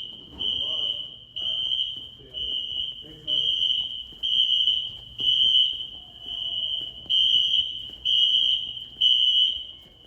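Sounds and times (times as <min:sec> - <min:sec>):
fire alarm horn blasts: 0:00.0 - 0:09.9.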